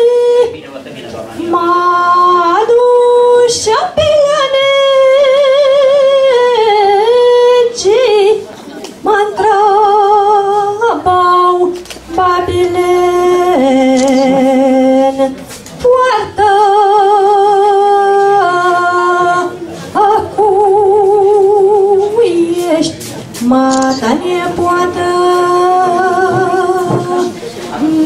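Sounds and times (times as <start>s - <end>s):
woman singing: 0.0s - 0.5s, 1.5s - 28.0s.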